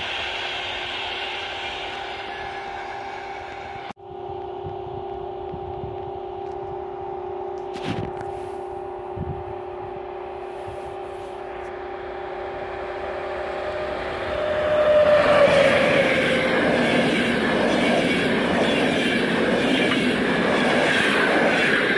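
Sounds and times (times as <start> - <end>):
train wheels rumbling on rails: 0.0 - 7.0, 7.6 - 21.9
electric locomotive hum: 0.0 - 21.9.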